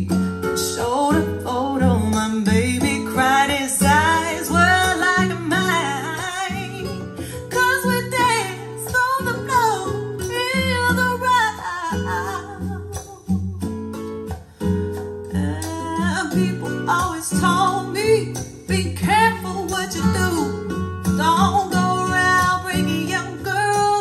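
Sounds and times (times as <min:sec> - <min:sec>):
person singing: 0:00.0 - 0:13.5, 0:15.3 - 0:24.0
plucked guitar: 0:00.0 - 0:24.0.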